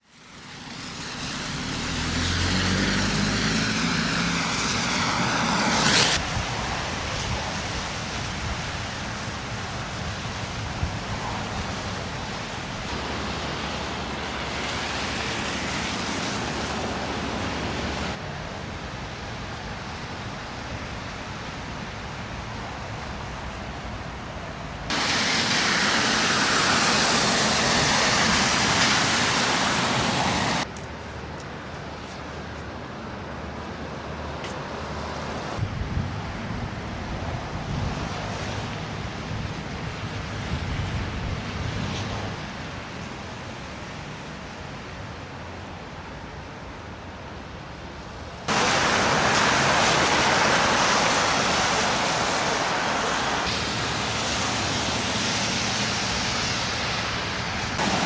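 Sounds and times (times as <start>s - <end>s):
cars passing with tyre hiss: 0.0s - 58.0s.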